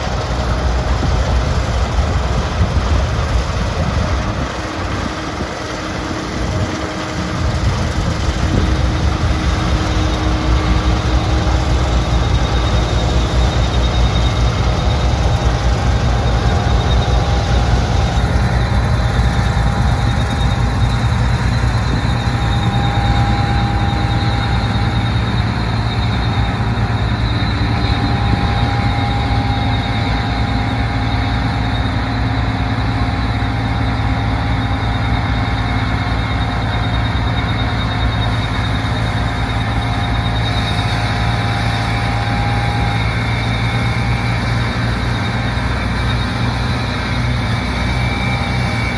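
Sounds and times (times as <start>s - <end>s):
combine harvester engine drone: 0.0s - 48.9s
high machinery tones: 0.0s - 48.9s.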